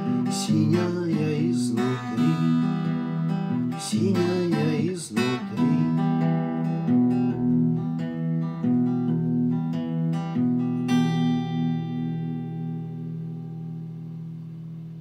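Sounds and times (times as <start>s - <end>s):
acoustic guitar picked chords: 0.0s - 15.0s.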